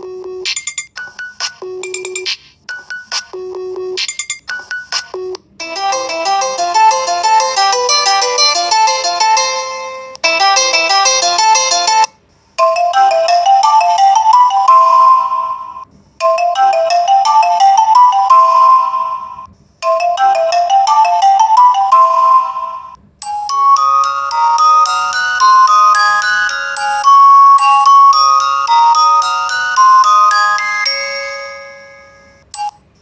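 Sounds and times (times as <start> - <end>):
phone ringtone melody: 0.0 - 32.8.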